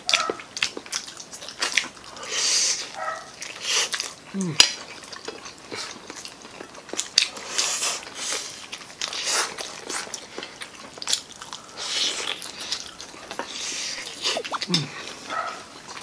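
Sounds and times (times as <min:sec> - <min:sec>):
people chewing and slurping food: 0:00.0 - 0:16.0.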